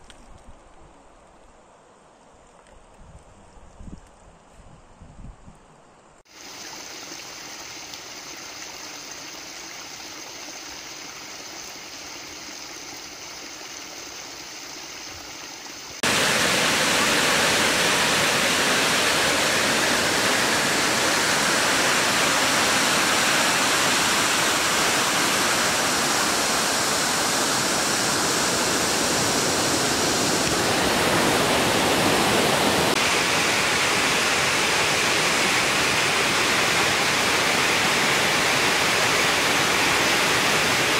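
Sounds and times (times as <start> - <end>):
stream cascading over rocks: 6.3 - 40.9.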